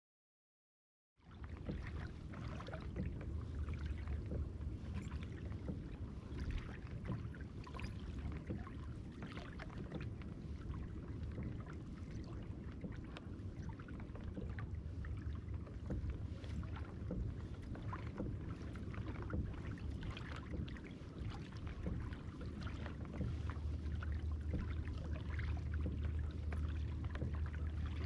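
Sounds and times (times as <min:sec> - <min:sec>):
water lapping against kayak hull: 0:01.2 - 0:28.0
steady low rumble: 0:01.3 - 0:28.0.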